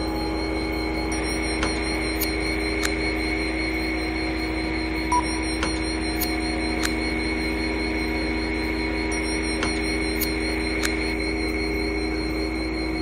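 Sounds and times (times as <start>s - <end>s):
synthesized electronic drone: 0.0s - 13.0s.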